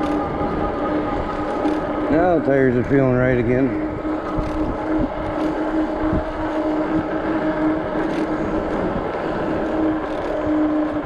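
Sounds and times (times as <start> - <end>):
electric bike whine: 0.0 - 11.0.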